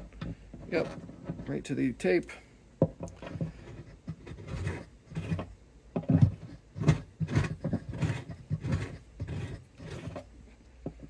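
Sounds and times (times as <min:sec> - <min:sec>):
reamer scraping wood: 0:00.0 - 0:01.8, 0:03.1 - 0:10.3.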